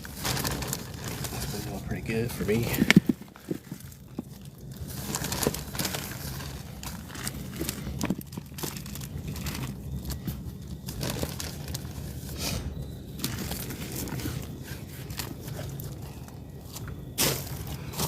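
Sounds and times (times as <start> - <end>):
plastic bag crinkling: 0.0 - 12.4, 13.1 - 18.0.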